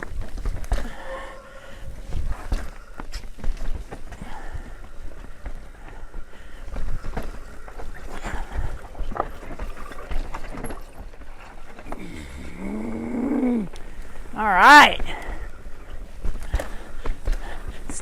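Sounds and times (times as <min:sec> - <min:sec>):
bike rattling over bumps: 0:00.0 - 0:18.0
tyres running over dirt: 0:00.0 - 0:18.0.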